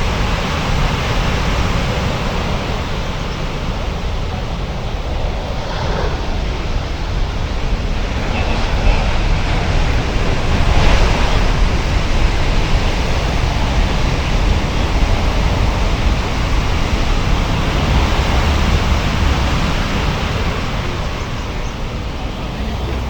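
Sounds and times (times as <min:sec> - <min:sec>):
ocean surf roaring: 0:00.0 - 0:23.0.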